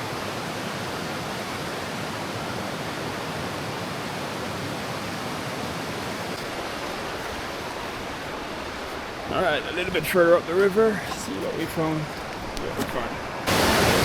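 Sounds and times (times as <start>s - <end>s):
waterfall and river rushing: 0.0s - 14.0s.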